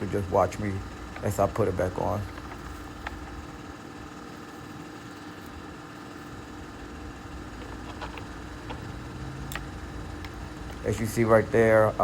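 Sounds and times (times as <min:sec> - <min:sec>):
mechanical hum with low rumble: 0:00.0 - 0:12.0.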